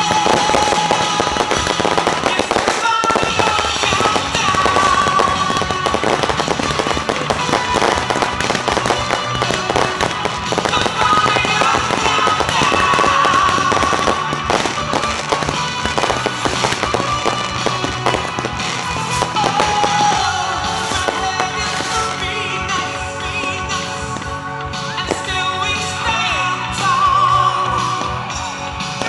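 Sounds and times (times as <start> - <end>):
fireworks crackling and banging: 0.0 - 29.0
music playing: 0.0 - 29.0.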